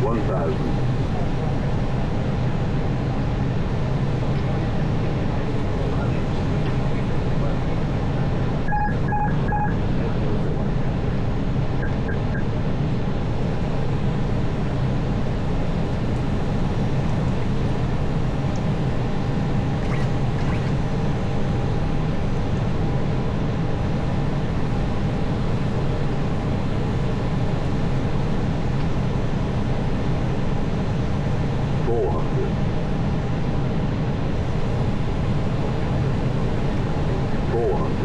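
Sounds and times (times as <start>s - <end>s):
aircraft engine noise: 0.0s - 38.0s
airflow in cockpit: 0.0s - 38.0s.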